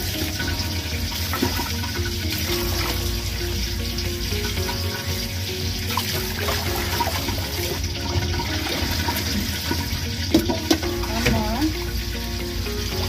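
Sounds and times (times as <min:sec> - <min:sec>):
hands rinsing meat in water: 0:00.1 - 0:12.8.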